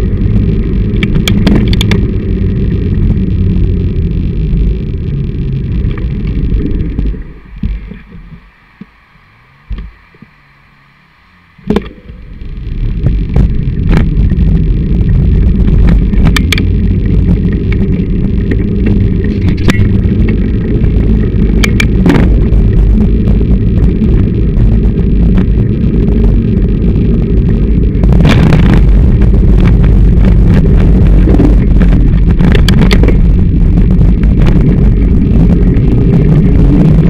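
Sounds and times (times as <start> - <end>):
low rumble of wind and vibration: 0.0 - 37.0.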